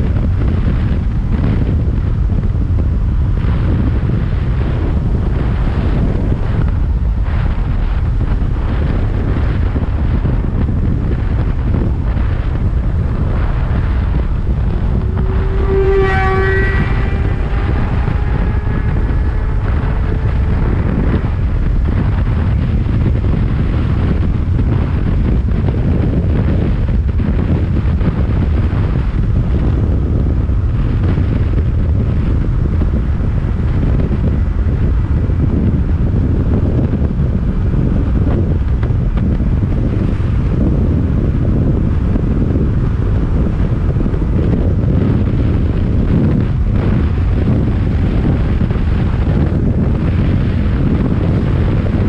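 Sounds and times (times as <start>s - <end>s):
motorcycle engine: 0.0s - 52.0s
wind buffeting microphone: 0.0s - 52.0s.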